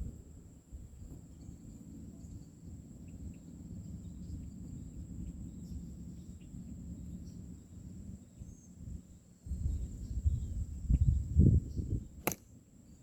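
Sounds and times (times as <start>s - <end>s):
wind rumble on microphone: 0.0s - 12.3s.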